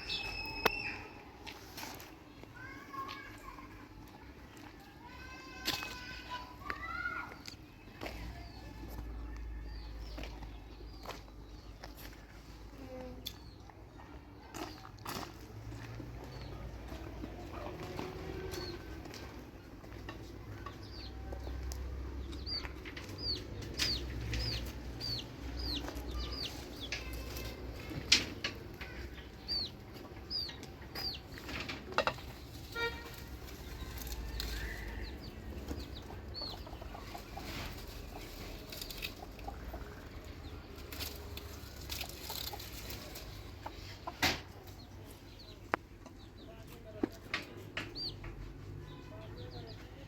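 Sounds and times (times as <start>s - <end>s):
birds chirping: 0.0s - 1.3s, 5.0s - 50.0s.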